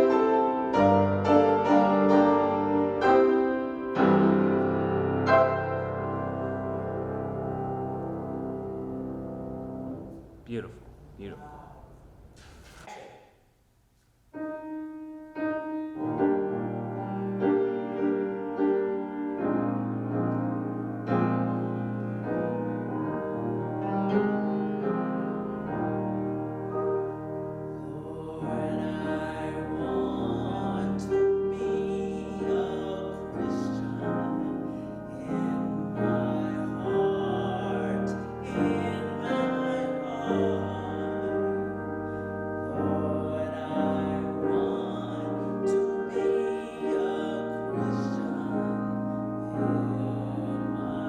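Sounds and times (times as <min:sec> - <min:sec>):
keyboard chords: 0:00.0 - 0:11.4, 0:14.4 - 0:51.0.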